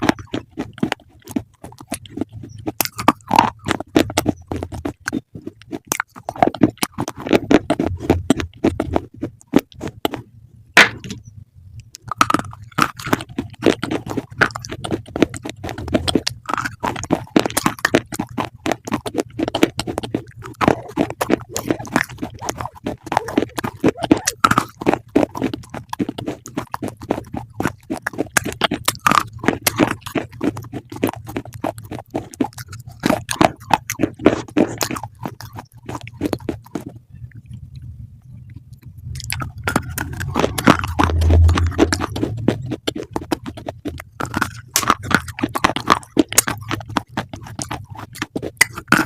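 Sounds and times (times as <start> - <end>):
person chewing crisp food: 0.0 - 49.0.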